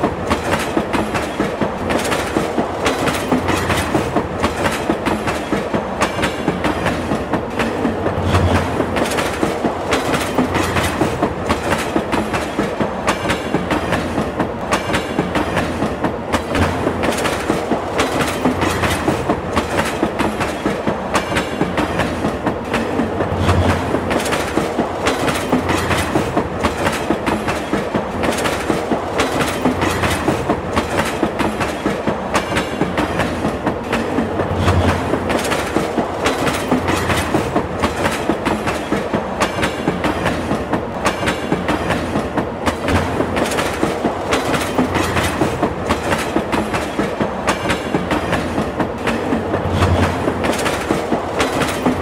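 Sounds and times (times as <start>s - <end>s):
train wheels clickety-clack: 0.0s - 52.0s.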